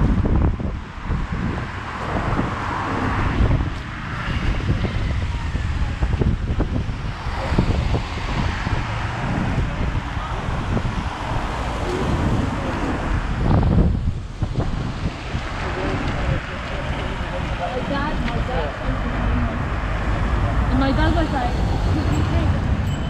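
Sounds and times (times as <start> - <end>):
traffic on wet road: 0.0 - 23.0
wind buffeting microphone: 0.0 - 23.0.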